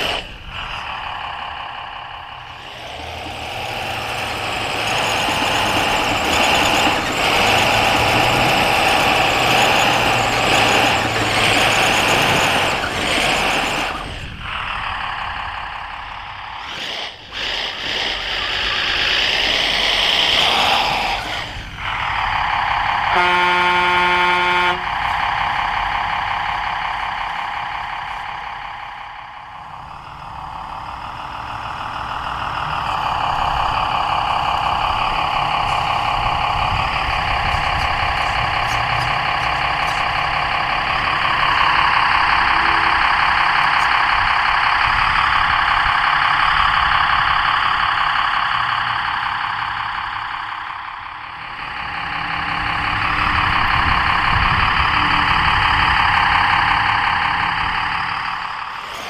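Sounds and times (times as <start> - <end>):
simulated diesel engine revving: 0.0 - 59.0.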